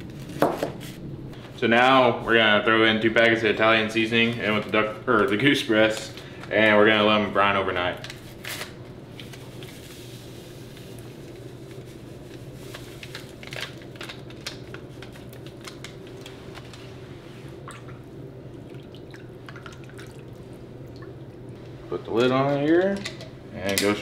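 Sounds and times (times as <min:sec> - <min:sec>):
steady low hum: 0:00.0 - 0:24.0
seasoning crackling: 0:04.0 - 0:24.0.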